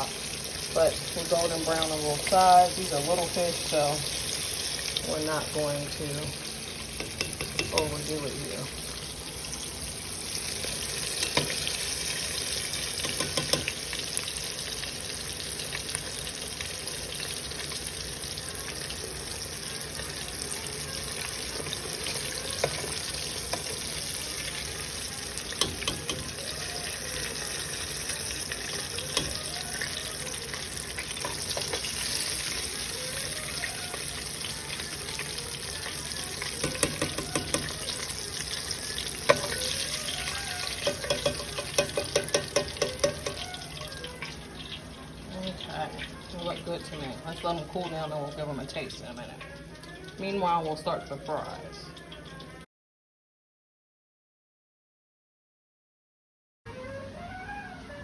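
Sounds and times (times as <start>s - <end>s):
grease popping: 0.0s - 9.3s, 10.3s - 48.0s
fish sizzling in a pan: 0.0s - 52.6s.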